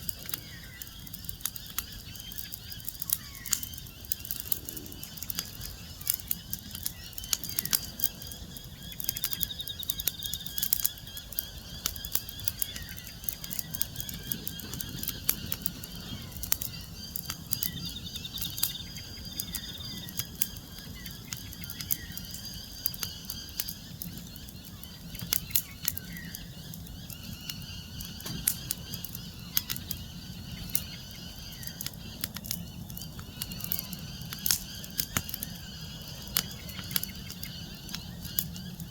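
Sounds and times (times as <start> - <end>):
faint high chirping calls: 0.0 - 38.9
wood fire crackling and popping: 0.0 - 38.9.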